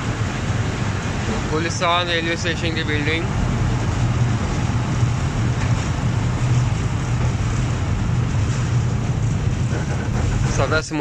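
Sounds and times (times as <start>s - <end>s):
diesel locomotive idling: 0.0s - 11.0s
wind buffeting microphone: 0.0s - 11.0s.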